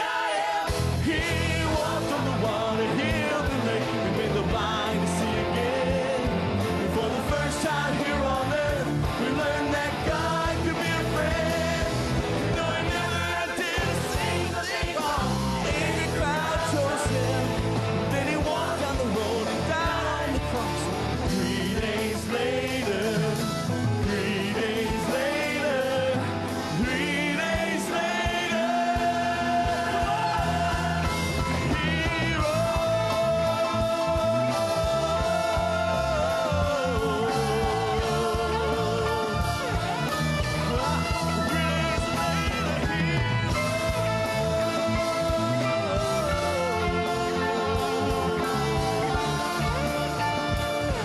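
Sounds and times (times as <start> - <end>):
backing singers: 0.0 - 51.0
drums: 0.0 - 51.0
keyboard: 0.0 - 51.0
man singing lead: 0.0 - 51.0
electric and acoustic guitars: 0.6 - 51.0.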